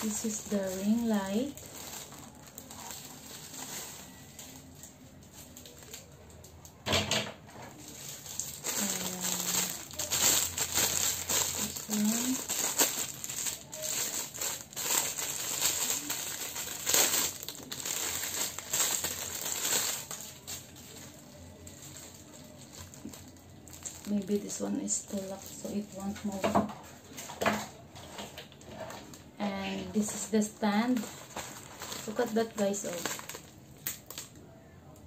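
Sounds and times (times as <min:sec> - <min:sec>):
plastic wrapping crinkling: 0:00.0 - 0:06.8, 0:07.4 - 0:34.5.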